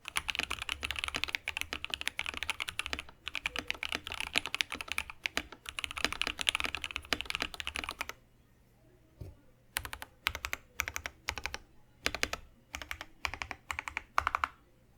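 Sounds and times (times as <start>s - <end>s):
mechanical keyboard typing: 0.0s - 8.2s, 9.8s - 14.6s.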